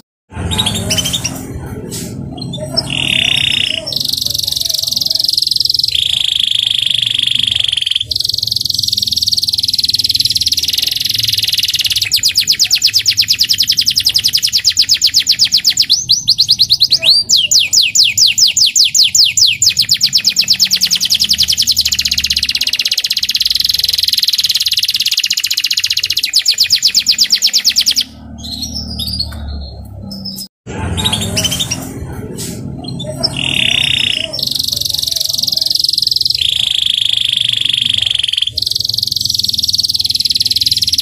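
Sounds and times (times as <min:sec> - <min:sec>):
canary singing a fast trill: 0:00.3 - 0:41.0.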